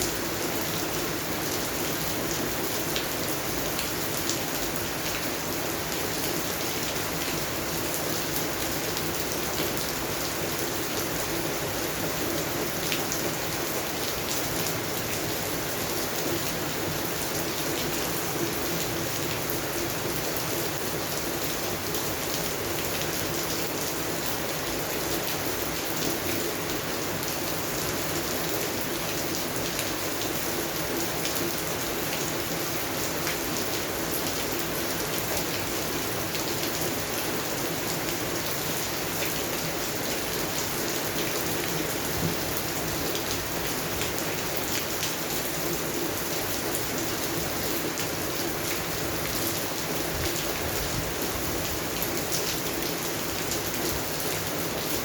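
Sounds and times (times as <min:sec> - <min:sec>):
rain falling on plants: 0:00.0 - 0:55.0.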